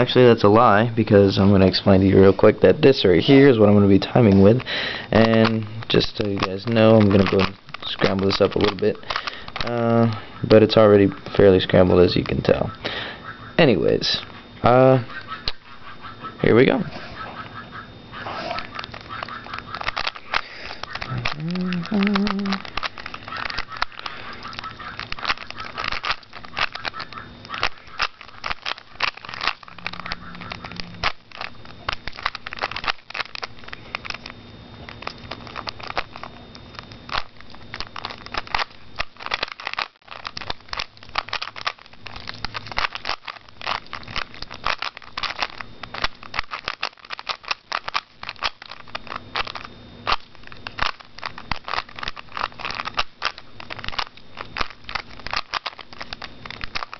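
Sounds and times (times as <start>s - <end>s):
puzzle cube plastic clicks: 0.0s - 15.6s, 17.6s - 56.9s
faint steady hum: 0.0s - 56.9s.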